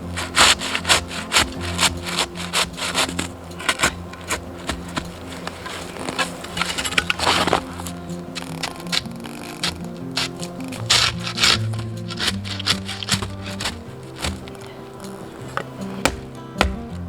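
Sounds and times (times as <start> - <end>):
hand saw cutting wood: 0.0 - 16.9.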